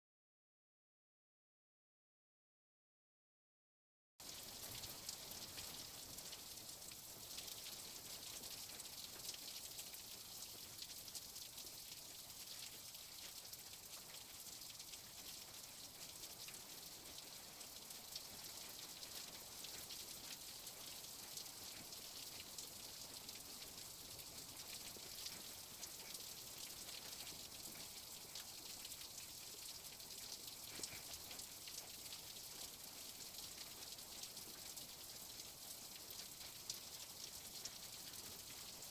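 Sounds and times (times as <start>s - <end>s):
high-pitched hiss with crackle: 4.2s - 38.9s.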